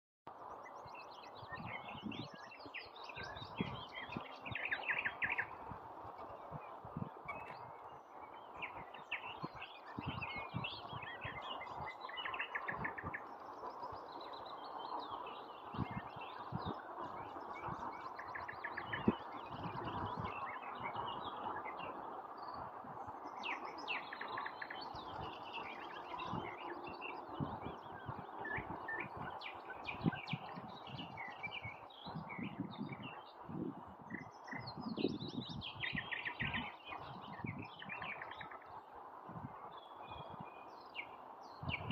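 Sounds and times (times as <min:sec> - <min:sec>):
nightingale singing: 0:00.6 - 0:38.8.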